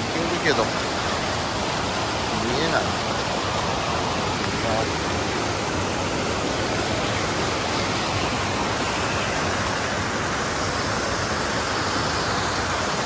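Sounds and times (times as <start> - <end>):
waterfall rushing over boulders: 0.0 - 13.0.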